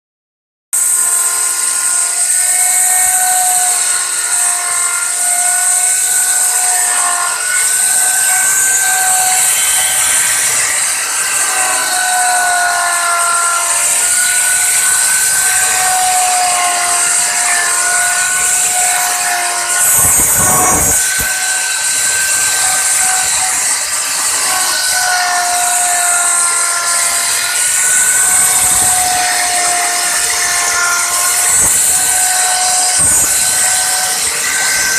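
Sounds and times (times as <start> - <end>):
hiss of wood cutting: 0.8 - 34.9
router spindle whining: 0.8 - 34.9.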